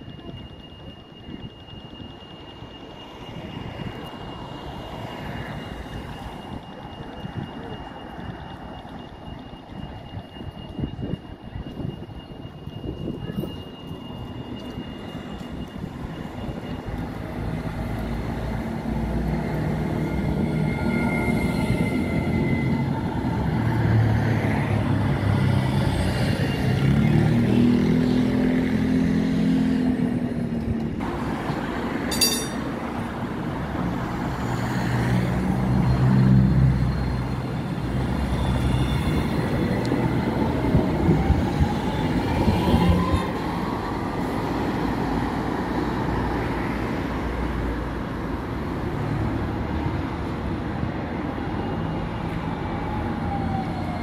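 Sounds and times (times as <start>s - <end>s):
tram motor tones: 0.0s - 54.0s
tram rumbling on rails: 0.0s - 54.0s.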